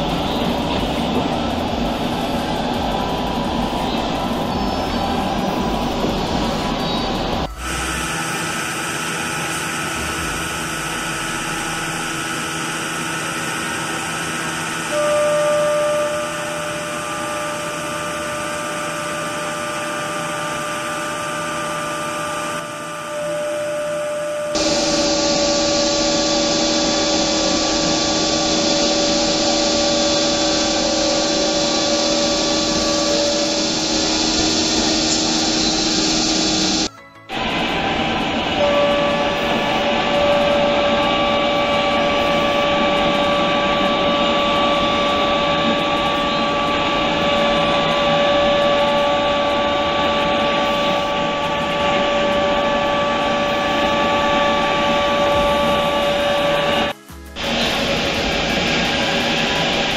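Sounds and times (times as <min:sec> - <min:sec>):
drilling machine humming: 0:00.0 - 0:59.9
steady machine whine: 0:00.0 - 0:59.9.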